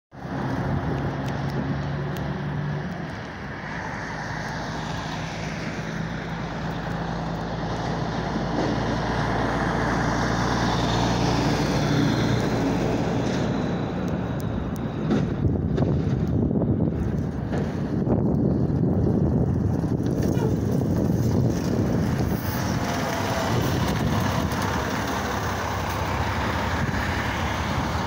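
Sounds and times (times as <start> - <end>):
street traffic hum: 0.1 - 28.0
truck engine driving past: 0.2 - 28.0.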